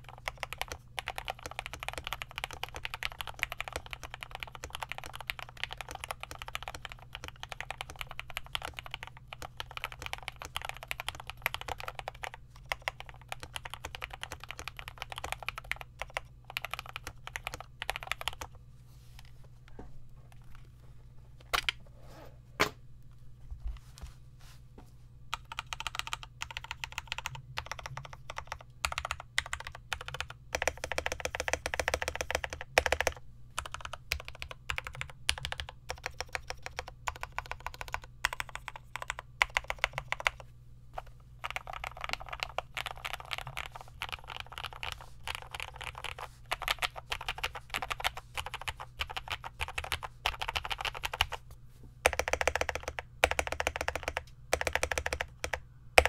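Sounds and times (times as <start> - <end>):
mechanical keyboard typing: 0.0 - 18.5, 25.3 - 40.4, 41.4 - 51.4, 52.0 - 56.0.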